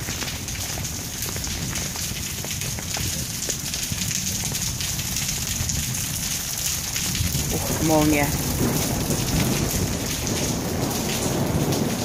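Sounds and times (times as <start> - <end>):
heavy rain on stone street: 0.0 - 12.0.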